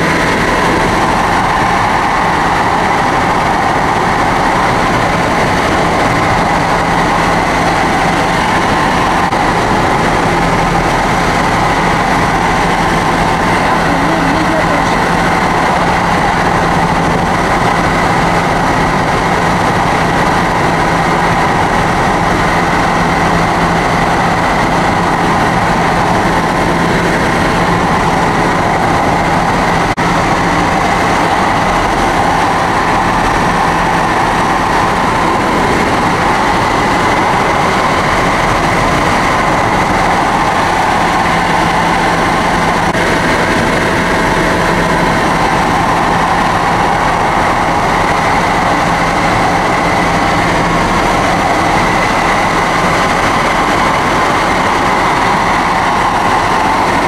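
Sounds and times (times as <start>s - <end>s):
helicopter engine and rotors droning: 0.0s - 57.0s.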